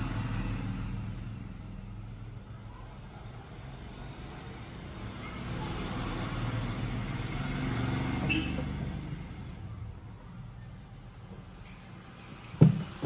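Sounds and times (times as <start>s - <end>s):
vehicle passing by: 0.0s - 11.2s.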